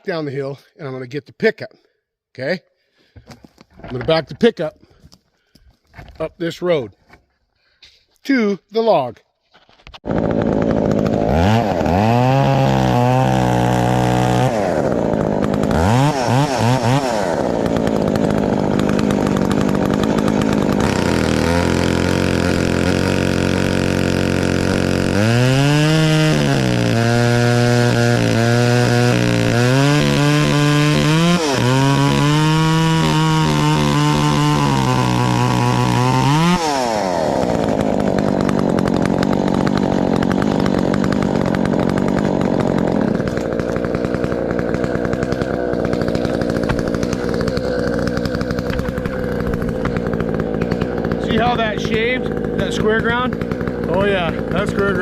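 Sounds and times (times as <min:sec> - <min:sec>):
chainsaw revving: 0:10.0 - 0:55.0.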